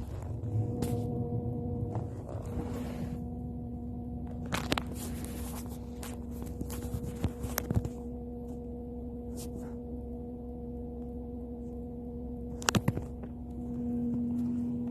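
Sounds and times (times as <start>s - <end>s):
car humming tone: 0.0s - 14.9s
low rumble: 0.0s - 14.9s.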